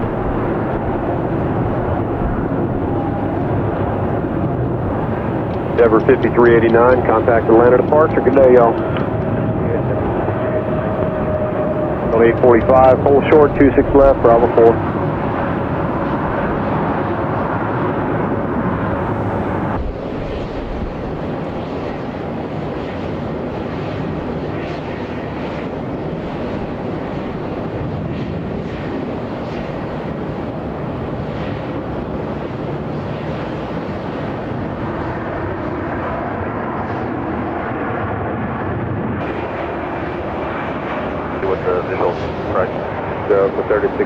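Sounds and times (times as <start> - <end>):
distant jet engine noise: 0.0 - 44.0.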